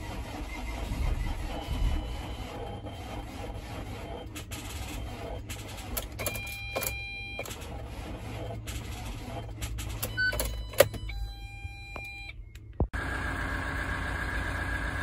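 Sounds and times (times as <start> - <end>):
van engine running: 0.0 - 15.0.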